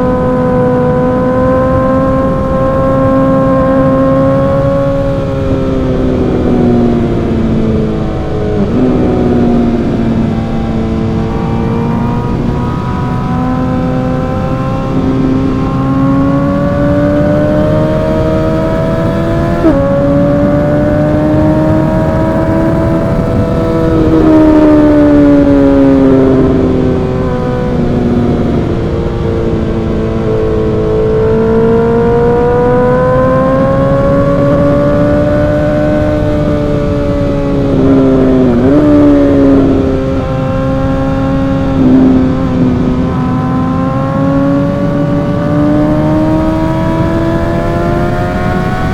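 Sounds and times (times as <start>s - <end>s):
motorcycle exhaust revving: 0.0s - 48.9s
wind noise: 0.0s - 48.9s.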